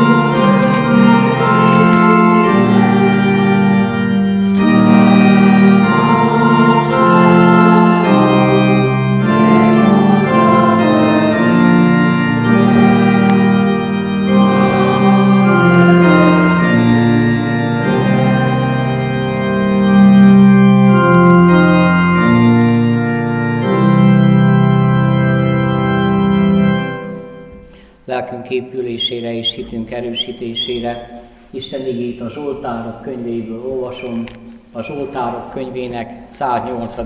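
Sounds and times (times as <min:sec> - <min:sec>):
organ playing hymn chords: 0:00.0 - 0:31.7.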